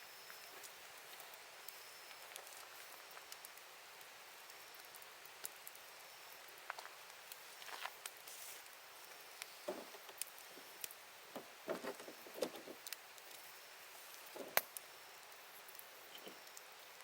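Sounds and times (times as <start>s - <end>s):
campfire crackling: 0.0s - 17.0s
soft fire hiss: 0.0s - 17.0s.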